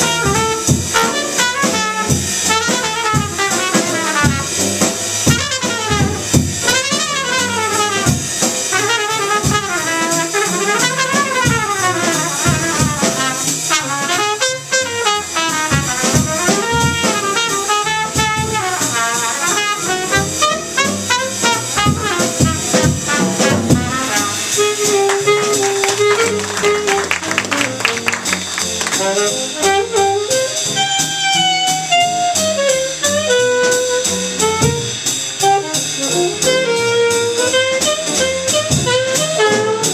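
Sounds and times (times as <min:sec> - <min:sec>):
saxophone lead: 0:00.0 - 0:04.6, 0:05.2 - 0:39.9
jazz combo backing: 0:00.0 - 0:39.9
trumpet solo: 0:00.0 - 0:39.9.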